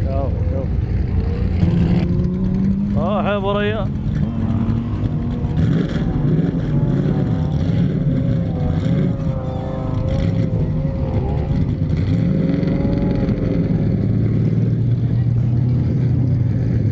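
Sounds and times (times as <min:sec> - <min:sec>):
off-road engine revving: 0:00.0 - 0:16.9.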